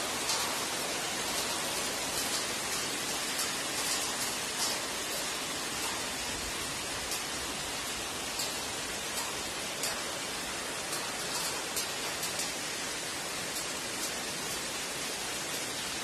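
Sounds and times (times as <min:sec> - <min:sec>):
heavy rain on pavement: 0:00.0 - 0:16.0
raindrops ticking close by: 0:00.0 - 0:16.0.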